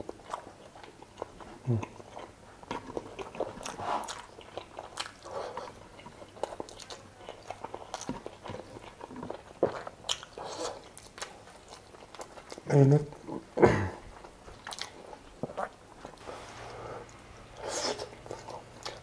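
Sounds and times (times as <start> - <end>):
mouth clicks and smacks chewing: 0.0 - 13.4, 14.1 - 16.2.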